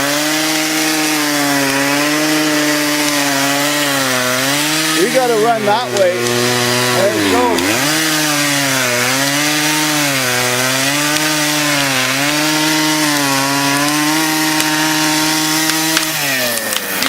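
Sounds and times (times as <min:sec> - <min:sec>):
chainsaw running at high throttle: 0:00.0 - 0:17.0.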